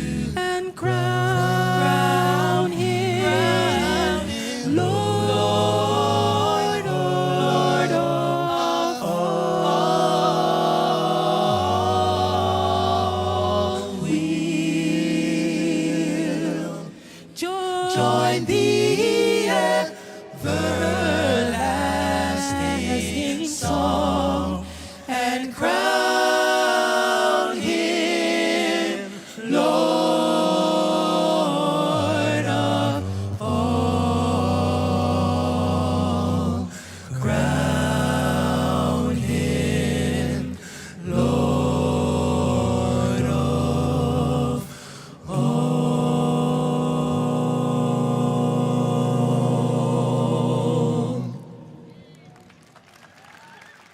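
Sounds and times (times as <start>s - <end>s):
vocal group singing in harmony: 0.0s - 52.1s.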